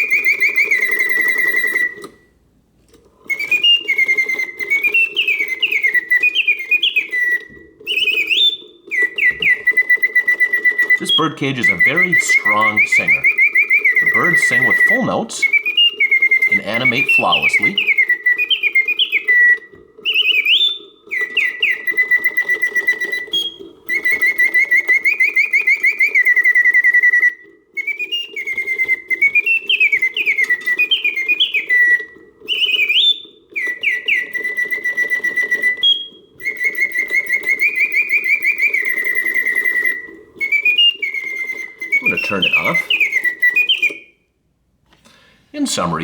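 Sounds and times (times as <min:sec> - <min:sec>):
mechanical bird whistle singing: 0:00.0 - 0:02.3, 0:03.3 - 0:44.3, 0:45.1 - 0:46.0.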